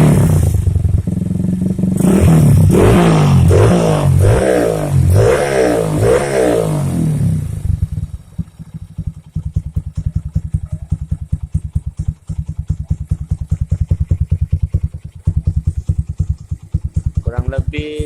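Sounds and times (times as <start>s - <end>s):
motorcycle engine idling: 0.0s - 5.2s, 5.8s - 18.0s.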